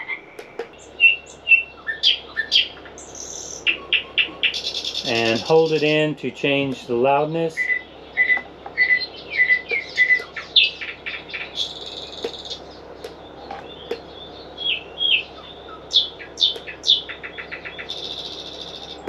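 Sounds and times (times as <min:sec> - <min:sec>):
recorded birdsong through small speaker: 0:00.0 - 0:19.0.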